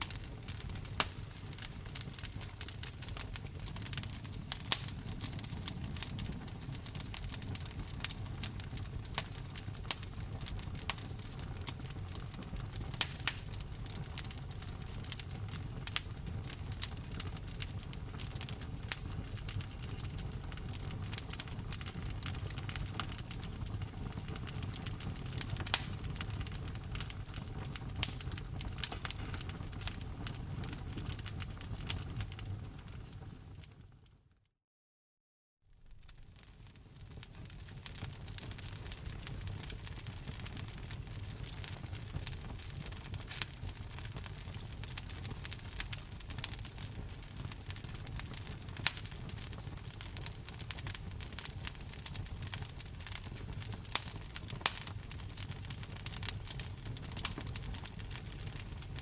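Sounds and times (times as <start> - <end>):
low rumble of burning logs: 0.0 - 34.2, 35.8 - 59.0
wood fire crackling and popping: 0.0 - 34.2, 35.8 - 59.0.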